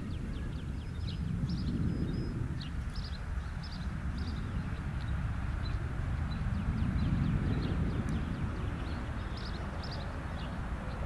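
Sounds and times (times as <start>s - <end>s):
birds chirping: 0.0s - 11.0s
low rumbling noise: 0.0s - 11.0s.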